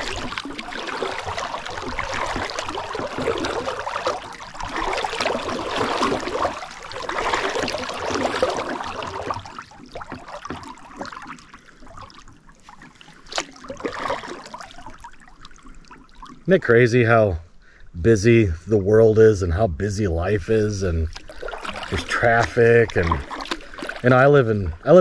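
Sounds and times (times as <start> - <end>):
paddle strokes splashing in water: 0.0 - 16.5, 20.5 - 24.3.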